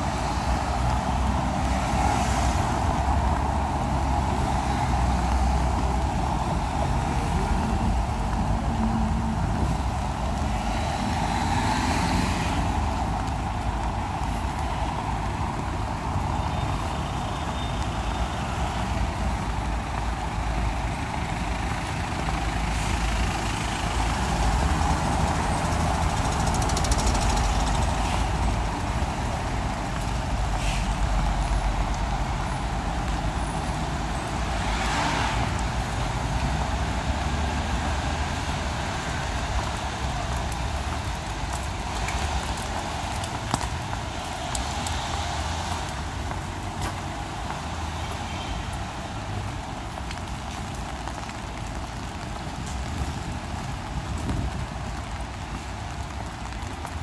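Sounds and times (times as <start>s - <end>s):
traffic engine rumble: 0.0s - 57.0s
tyre hiss on wet road: 0.0s - 57.0s.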